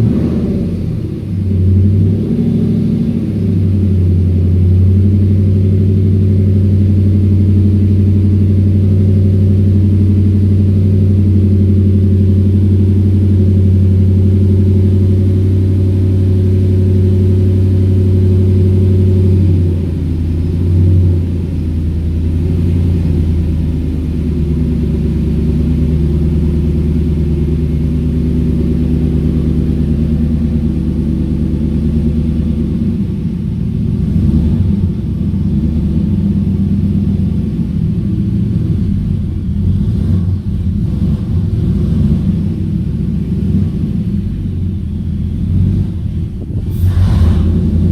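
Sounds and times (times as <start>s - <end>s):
supercharged engine idling: 0.0s - 47.9s.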